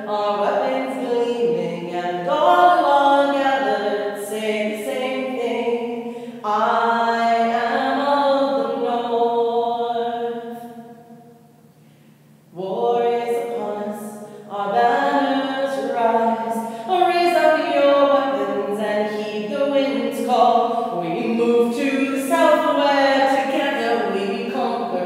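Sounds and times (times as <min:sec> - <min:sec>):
woman singing a cappella: 0:00.0 - 0:11.0, 0:12.5 - 0:25.0.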